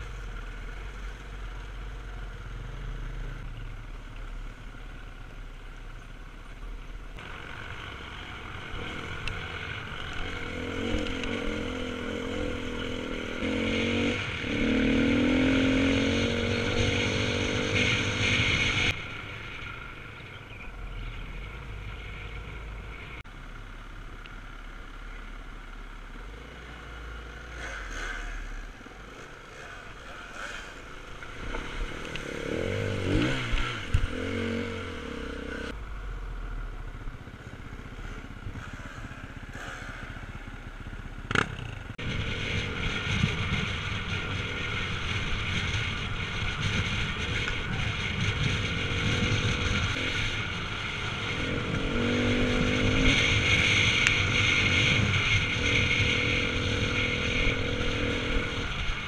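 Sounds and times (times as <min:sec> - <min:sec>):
off-road motorcycle engine: 0:00.0 - 0:59.0.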